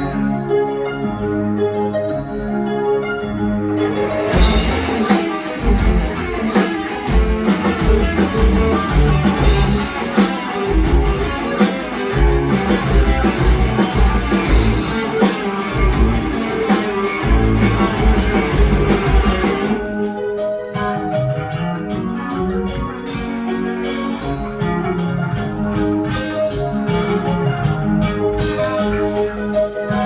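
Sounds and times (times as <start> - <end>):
electric guitar: 0.0 - 30.0
drum kit beat: 4.0 - 30.0.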